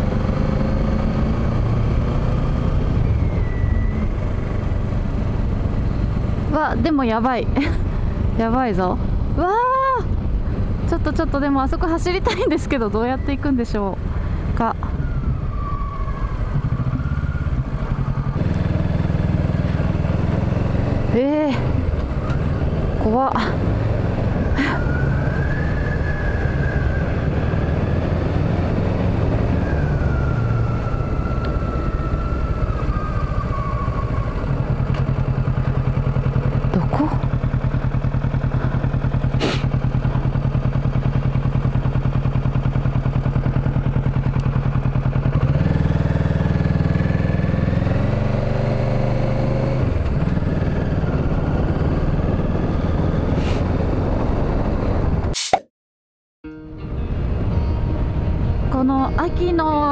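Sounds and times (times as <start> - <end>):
motorcycle engine running: 0.0 - 55.2.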